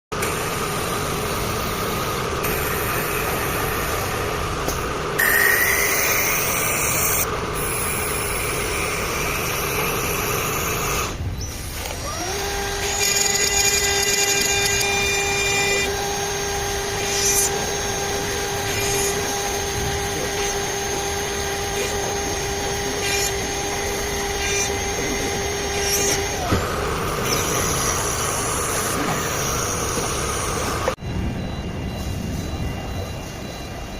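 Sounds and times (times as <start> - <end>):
machine cutting wood: 0.2 - 31.0
spindle whine: 0.2 - 33.9.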